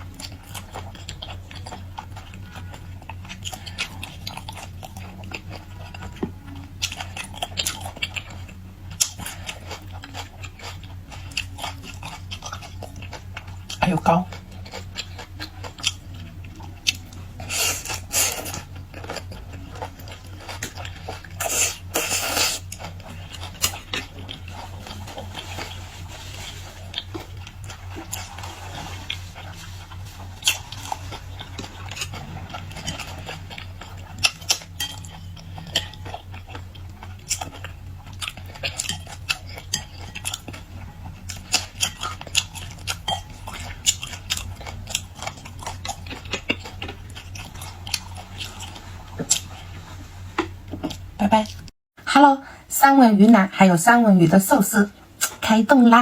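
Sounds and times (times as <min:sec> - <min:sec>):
chewing and biting: 0:00.0 - 0:51.7
crackly eating sounds: 0:00.0 - 0:51.7, 0:54.9 - 0:56.0
steady low hum: 0:00.0 - 0:56.0.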